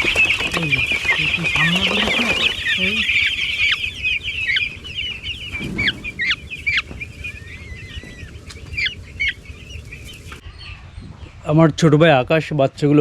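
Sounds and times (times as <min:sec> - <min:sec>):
chicks peeping: 0:00.0 - 0:12.2.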